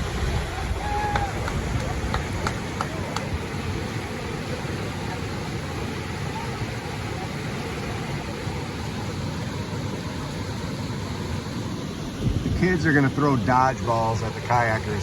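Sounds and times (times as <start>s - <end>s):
whitewater rapids roaring: 0.0s - 15.0s.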